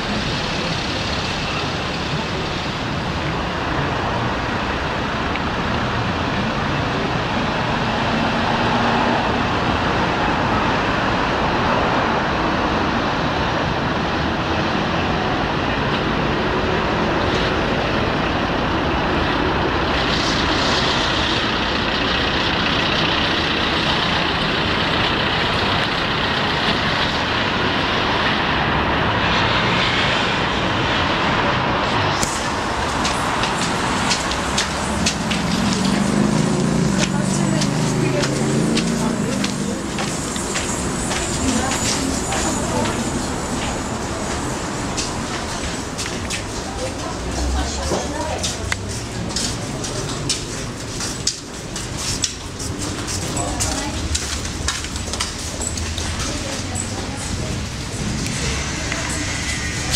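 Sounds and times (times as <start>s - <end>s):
road traffic noise: 0.0s - 59.9s
vehicles passing by: 0.0s - 59.9s.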